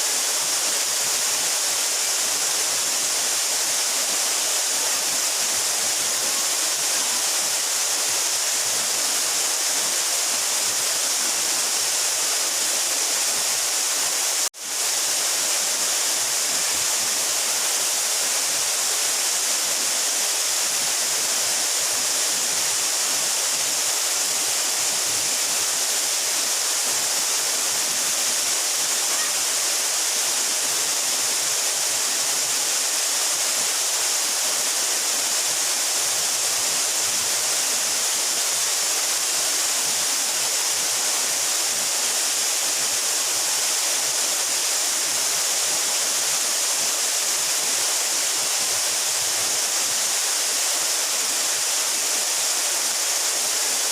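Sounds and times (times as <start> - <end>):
waterfall splashing: 0.0 - 53.9.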